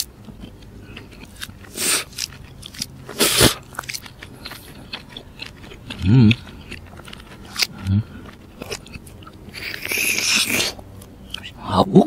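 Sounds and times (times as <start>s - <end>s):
man chewing: 0.0s - 11.6s.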